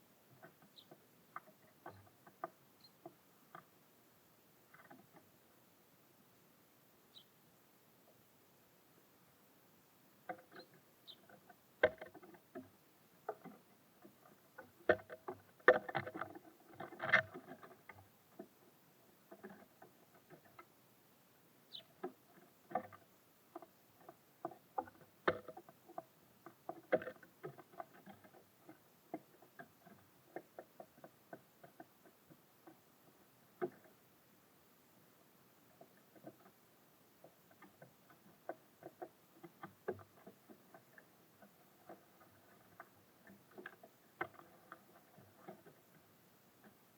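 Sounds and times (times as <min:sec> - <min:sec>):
birds pecking on wooden feeder: 0:00.1 - 0:05.6, 0:10.1 - 0:46.9.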